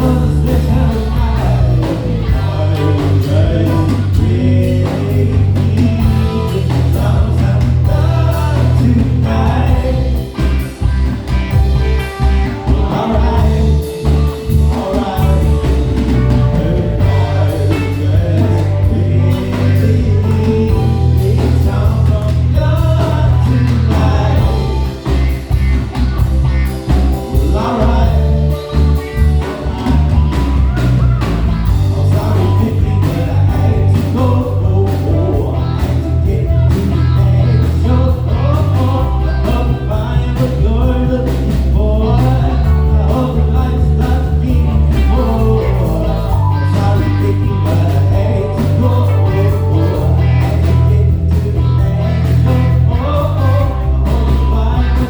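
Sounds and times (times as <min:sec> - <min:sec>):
bass and drums groove: 0:00.0 - 0:55.0
gliding lead melody: 0:00.0 - 0:55.0.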